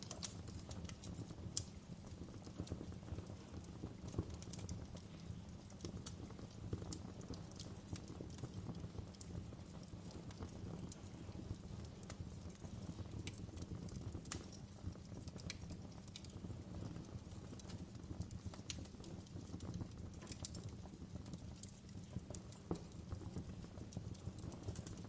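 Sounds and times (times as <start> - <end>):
fire crackling: 0.0 - 25.0
rumble of burning: 0.0 - 25.0.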